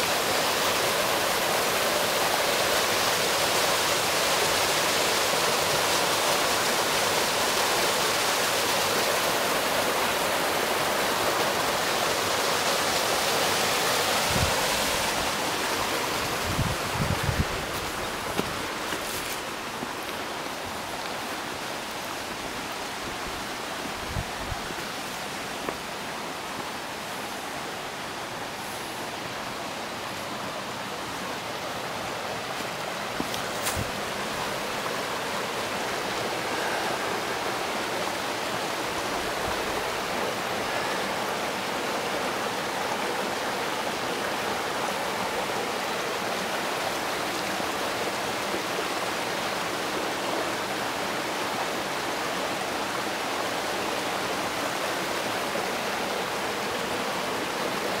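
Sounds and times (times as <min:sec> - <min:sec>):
stream babbling over rocks: 0:00.0 - 0:58.0.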